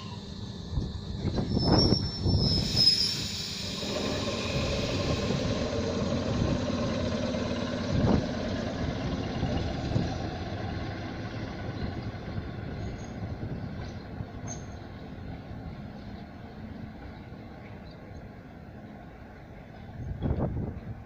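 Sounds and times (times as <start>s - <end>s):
electric train rumble: 0.0s - 21.0s.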